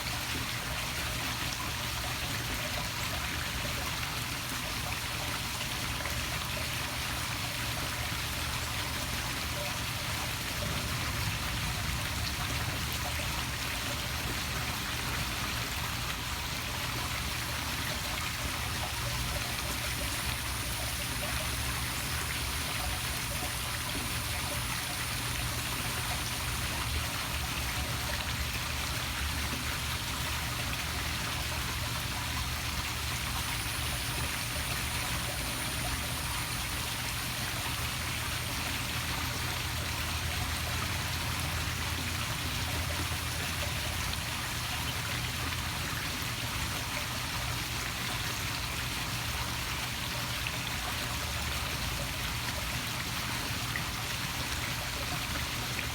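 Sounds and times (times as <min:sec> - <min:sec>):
waterfall splashing into pool: 0:00.0 - 0:55.9.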